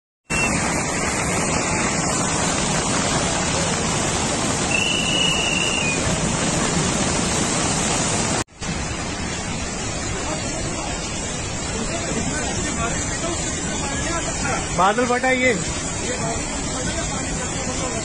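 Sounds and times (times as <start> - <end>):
floodwater rushing: 0.3 - 18.0.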